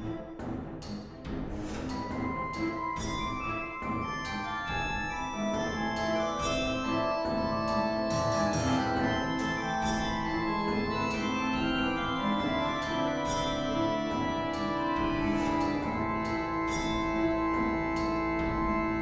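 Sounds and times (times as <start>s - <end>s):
organ-like keyboard chords: 2.0s - 19.0s.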